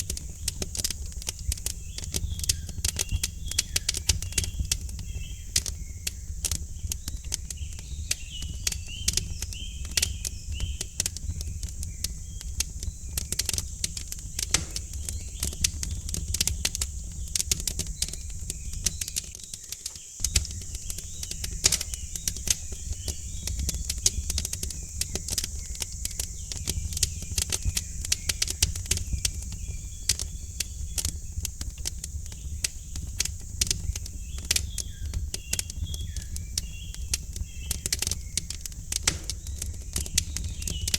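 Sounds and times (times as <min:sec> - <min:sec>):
small birds chirping: 0:00.0 - 0:40.9
wood fire crackling: 0:00.0 - 0:40.9.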